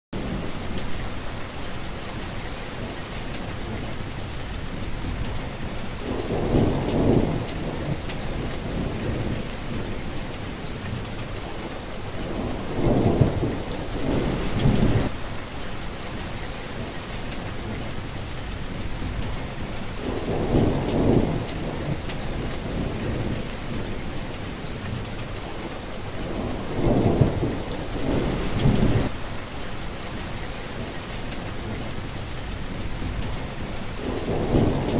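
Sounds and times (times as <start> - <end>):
rain falling on plants: 0.2 - 34.9
low thunder rumbles: 2.8 - 15.3, 16.7 - 29.3, 30.1 - 34.9.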